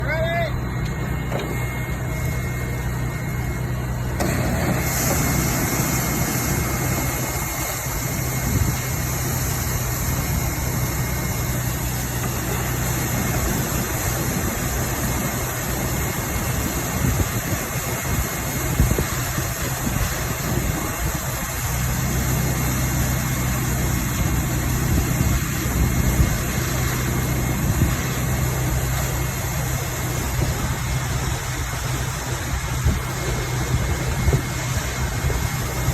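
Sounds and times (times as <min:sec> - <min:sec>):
broad even rushing noise: 0:00.0 - 0:35.9
truck engine running: 0:00.0 - 0:35.9.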